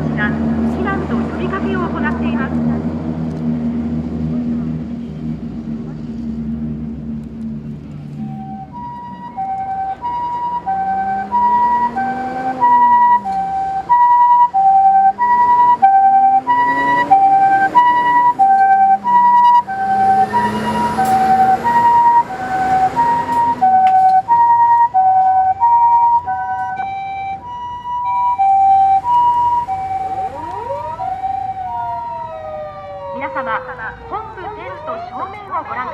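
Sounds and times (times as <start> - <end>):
lower siren wailing: 0.0 - 35.9
rising siren: 0.0 - 35.9
two-tone ambulance siren: 0.0 - 35.9.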